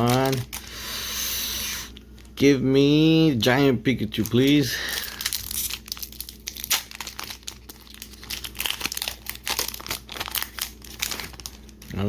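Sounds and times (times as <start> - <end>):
foil wrapper crinkling and tearing: 0.0 - 1.2, 3.5 - 12.0.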